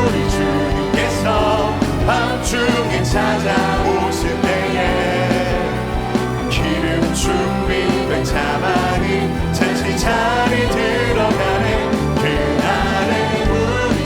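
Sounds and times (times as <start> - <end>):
praise band with singers: 0.0 - 14.0.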